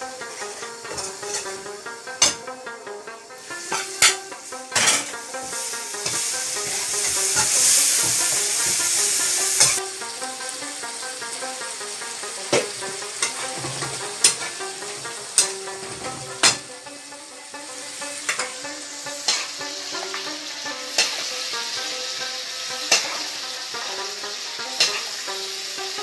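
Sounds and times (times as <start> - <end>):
meat sizzling in frying pan: 0.0 - 26.0.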